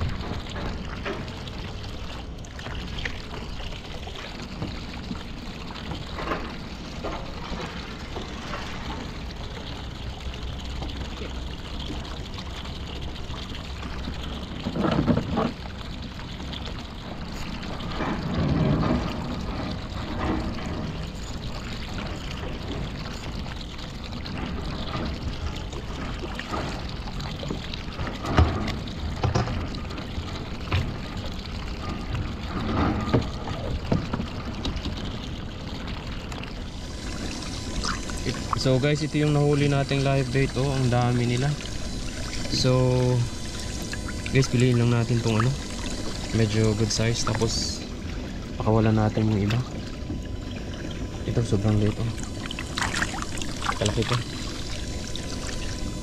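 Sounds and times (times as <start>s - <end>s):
water lapping around kayak hull: 0.0s - 56.0s.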